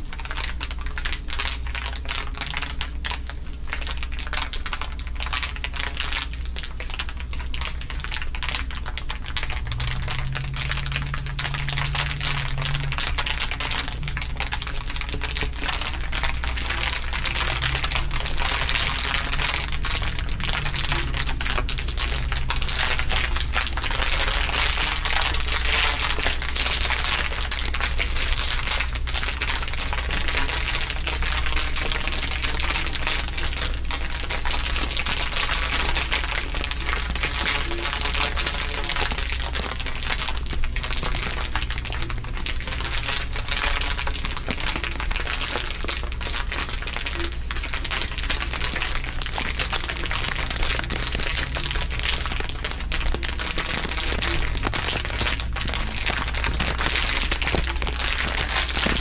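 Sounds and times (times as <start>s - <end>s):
dense crinkling crackle: 0.0s - 59.0s
low steady drone: 7.6s - 59.0s.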